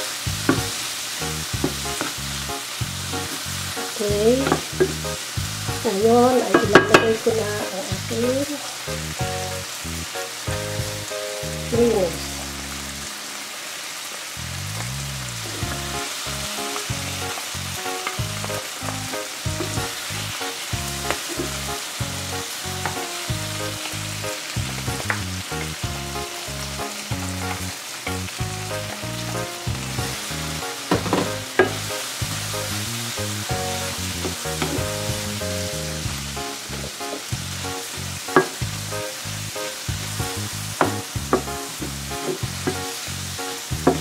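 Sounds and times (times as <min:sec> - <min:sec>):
background music: 0:00.0 - 0:44.0
vegetables sizzling in a frying pan: 0:00.0 - 0:44.0.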